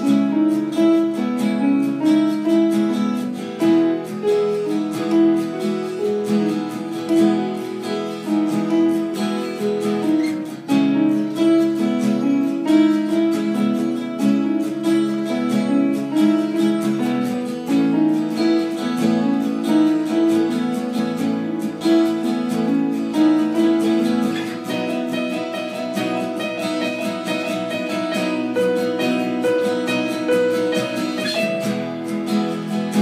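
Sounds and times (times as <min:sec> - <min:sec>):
acoustic guitar strumming: 0:00.0 - 0:33.0
keyboard playing chords and melody: 0:00.0 - 0:33.0.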